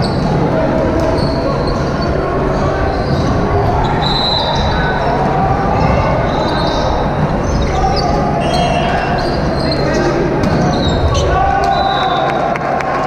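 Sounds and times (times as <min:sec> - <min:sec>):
indistinct voices: 0:00.0 - 0:13.0.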